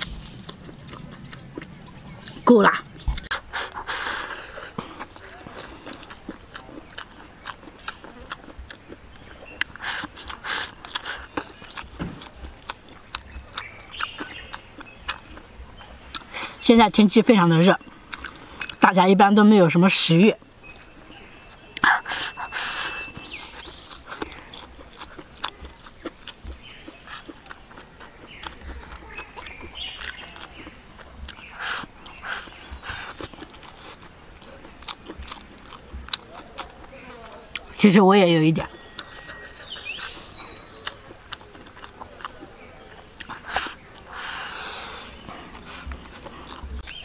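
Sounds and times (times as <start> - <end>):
wet chewing: 0.0 - 47.0.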